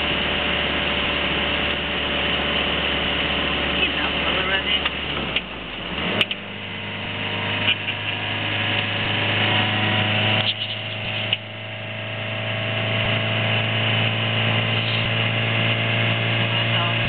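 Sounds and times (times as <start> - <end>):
diesel engine labouring: 0.0 - 17.0.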